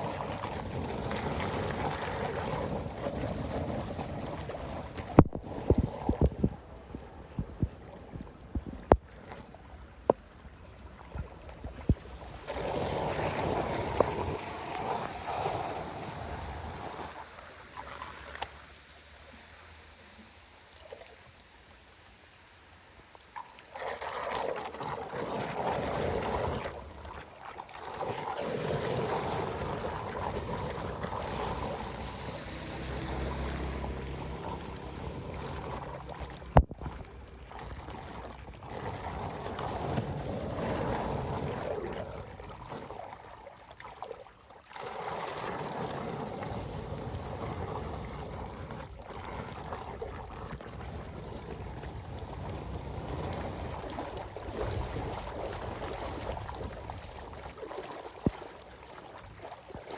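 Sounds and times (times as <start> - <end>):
water flowing and splashing: 0.0 - 59.9.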